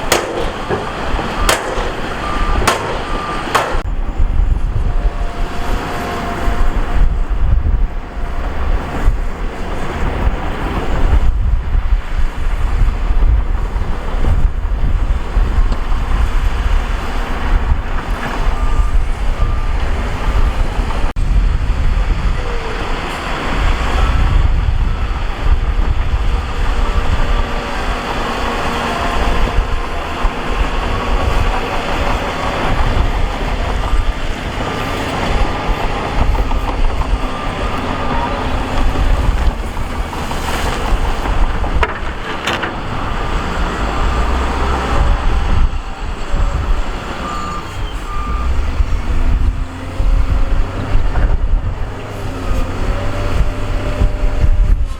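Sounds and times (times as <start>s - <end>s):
earthmoving machinery engines rumbling: 0.0s - 54.9s.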